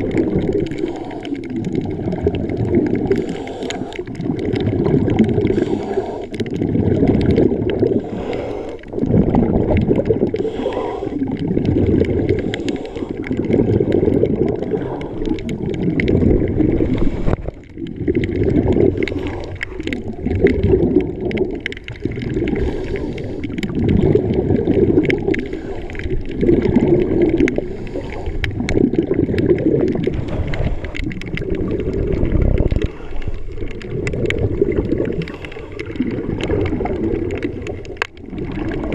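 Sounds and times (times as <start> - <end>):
underwater bubbling gurgle: 0.0 - 38.9.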